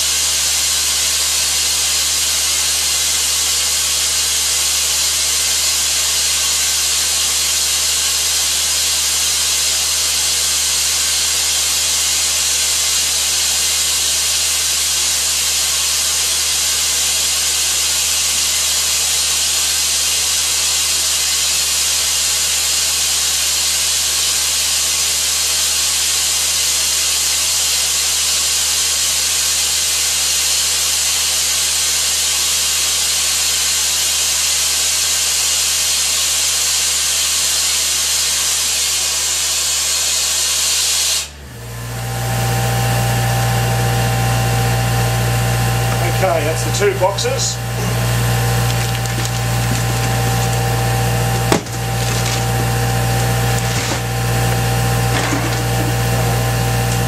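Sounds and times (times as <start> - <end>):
vacuum rushing hiss: 0.0 - 24.4, 32.6 - 41.8, 43.9 - 57.0.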